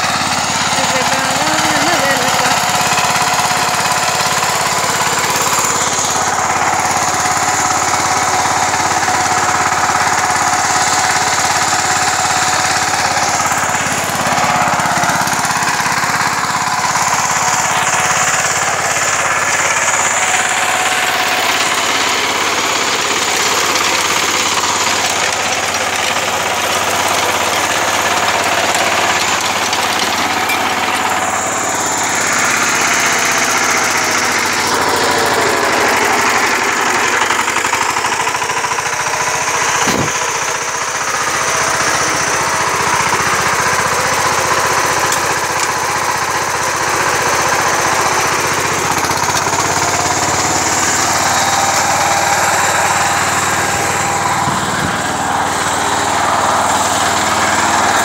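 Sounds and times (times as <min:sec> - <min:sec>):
power tiller diesel engine: 0:00.0 - 0:58.0.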